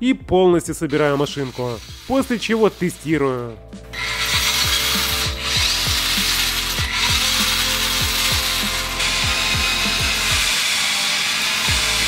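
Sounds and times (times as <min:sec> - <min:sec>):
toy electric motor running: 0:00.9 - 0:03.1, 0:03.9 - 0:12.0.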